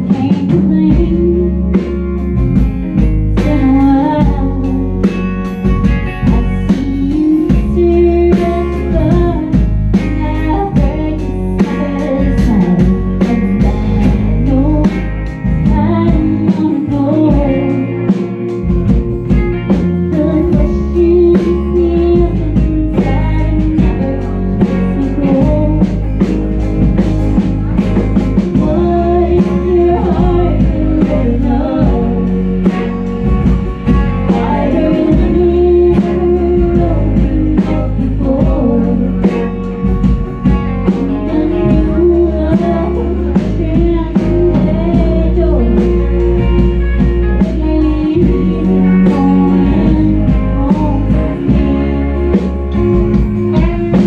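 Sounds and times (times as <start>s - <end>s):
woman singing: 0.0s - 26.4s, 28.4s - 54.0s
acoustic guitar: 0.0s - 54.0s
drum kit: 0.0s - 54.0s
electric guitar: 0.0s - 54.0s.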